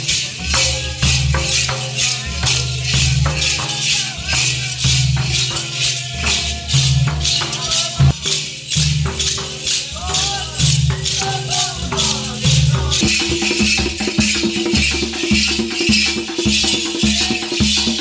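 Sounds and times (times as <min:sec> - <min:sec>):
background music with shaker beat: 0:00.0 - 0:18.0.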